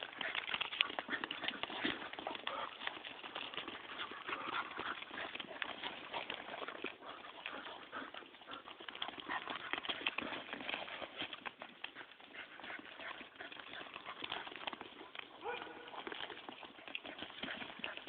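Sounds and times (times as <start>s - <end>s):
goat hooves clattering: 0.0s - 18.0s.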